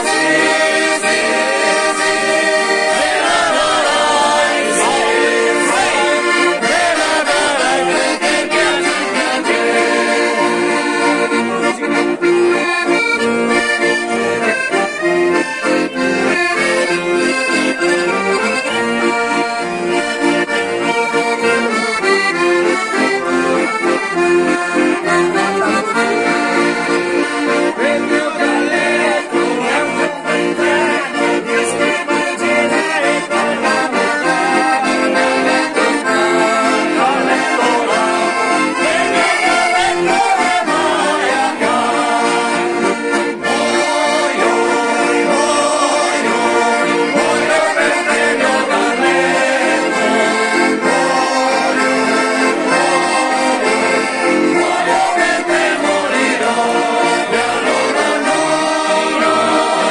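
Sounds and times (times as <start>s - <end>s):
accordions playing: 0.0s - 59.9s.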